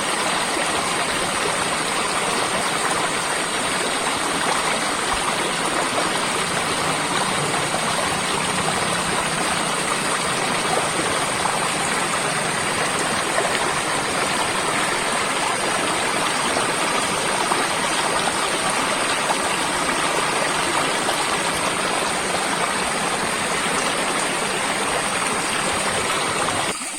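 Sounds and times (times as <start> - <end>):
stream water flowing: 0.0 - 26.9.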